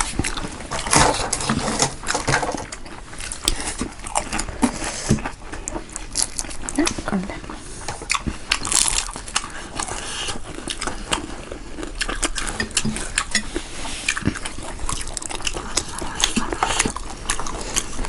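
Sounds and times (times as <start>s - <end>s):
wet chewing and mouth clicks: 0.0s - 18.0s.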